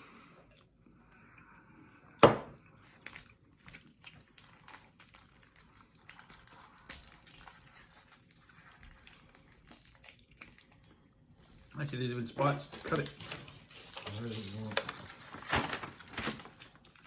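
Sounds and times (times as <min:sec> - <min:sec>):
wrapper crinkling: 0:03.0 - 0:17.0.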